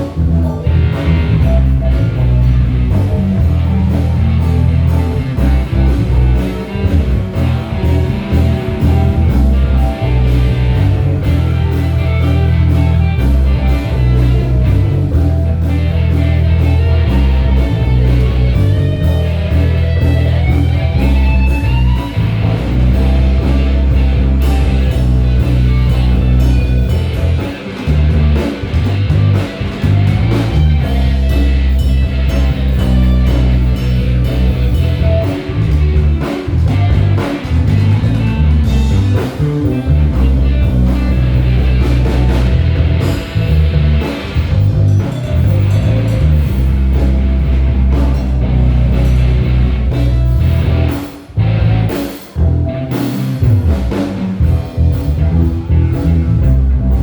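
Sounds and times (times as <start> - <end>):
bent guitar note: 0.0 - 57.0
live band playing: 0.0 - 57.0.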